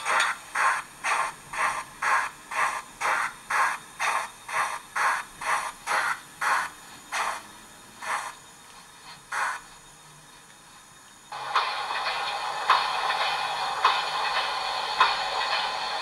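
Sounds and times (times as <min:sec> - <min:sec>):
electronic steam chuff: 0:00.0 - 0:08.5, 0:09.2 - 0:09.8, 0:11.3 - 0:16.0.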